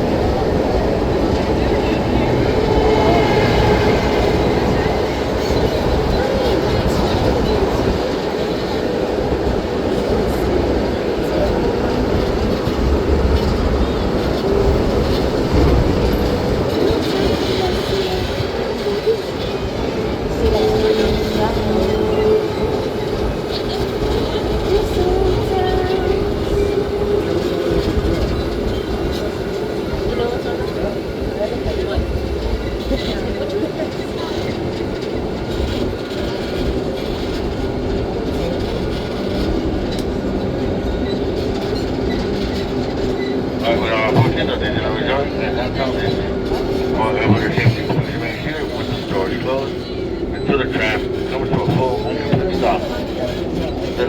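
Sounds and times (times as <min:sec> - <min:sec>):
tram rolling rumble: 0:00.0 - 0:54.0.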